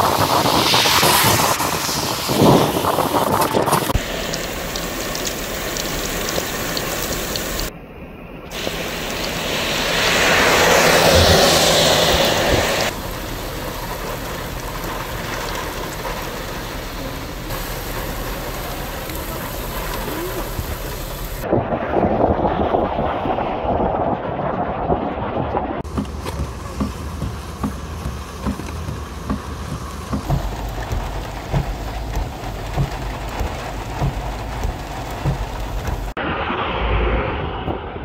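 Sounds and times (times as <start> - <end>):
cars swishing on wet road: 0.0 - 7.7, 8.5 - 21.5, 24.2 - 38.0
heavy rain pouring: 0.0 - 7.7, 8.5 - 37.7
wind: 0.0 - 38.0.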